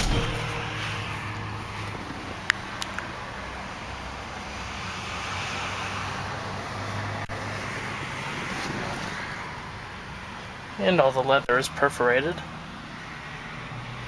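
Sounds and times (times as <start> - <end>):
highway traffic road noise: 0.0 - 14.0.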